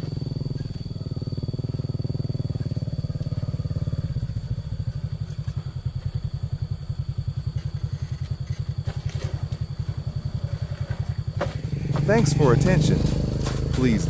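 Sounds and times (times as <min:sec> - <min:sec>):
small engine chugging: 0:00.0 - 0:14.0.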